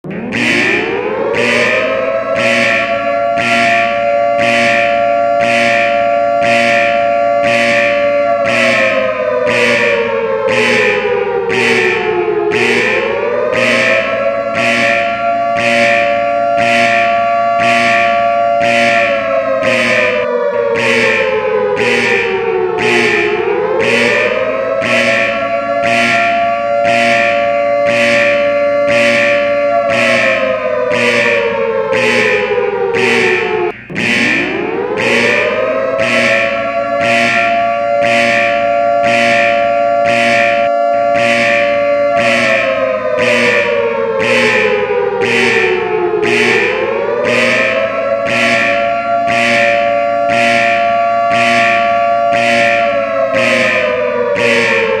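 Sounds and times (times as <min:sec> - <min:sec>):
siren-like alarm tone: 0:00.0 - 0:55.0.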